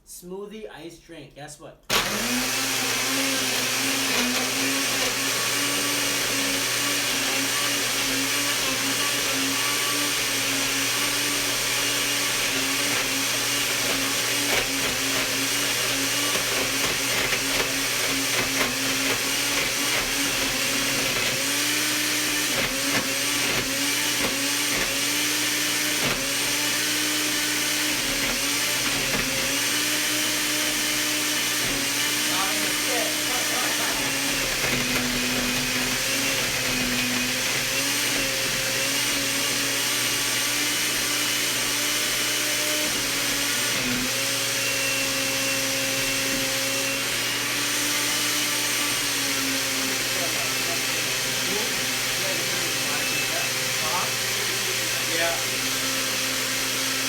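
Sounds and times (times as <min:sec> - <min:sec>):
blender crushing ice: 0:01.9 - 0:57.0.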